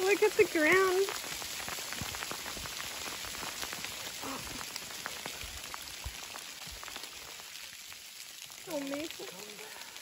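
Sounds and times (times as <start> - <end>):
hail pattering on ground: 0.0 - 10.0.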